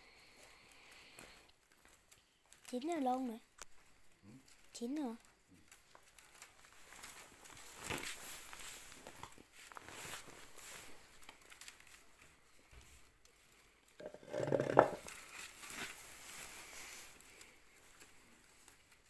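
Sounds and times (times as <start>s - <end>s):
bamboo strips rustling and clicking: 0.1s - 19.0s.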